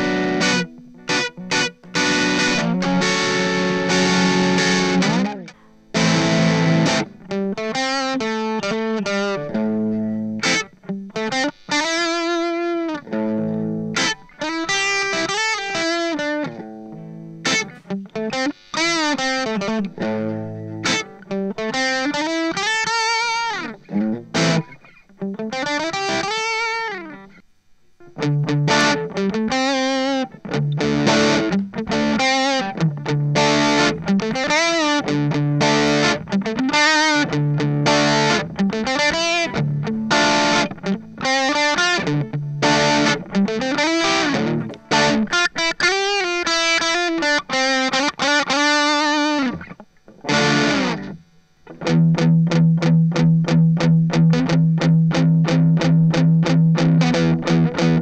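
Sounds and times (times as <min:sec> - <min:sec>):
overdriven electric guitar: 0:00.0 - 0:58.0.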